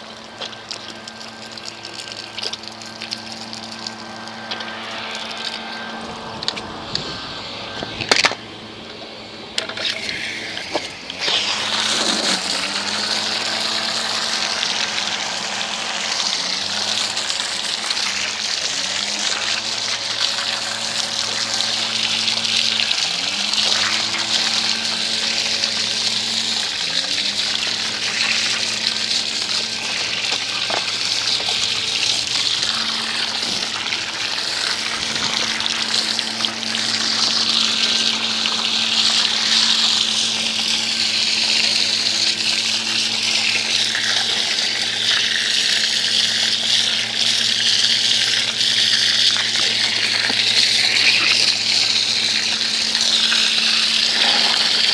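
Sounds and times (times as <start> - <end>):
pressure washer motor hum: 0.0 - 54.9
pressure washer spraying water: 0.0 - 54.9.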